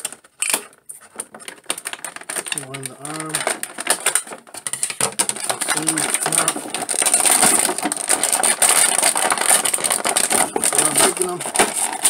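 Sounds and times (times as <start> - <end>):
plastic blister tray crackling: 0.0 - 12.0.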